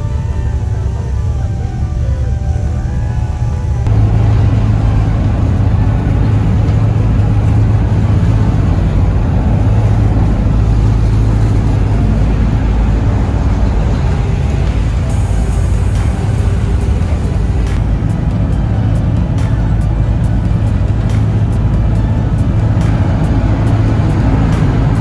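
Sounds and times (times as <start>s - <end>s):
ferry engines droning: 0.0s - 25.0s.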